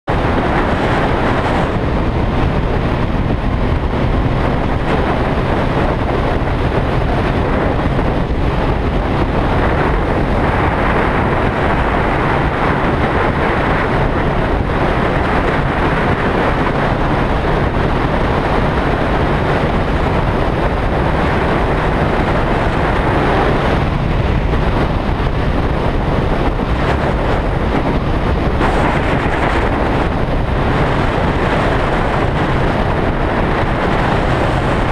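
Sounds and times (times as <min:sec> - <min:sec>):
wind rushing over microphone: 0:00.0 - 0:34.9
motorcycle engine running: 0:00.2 - 0:34.9.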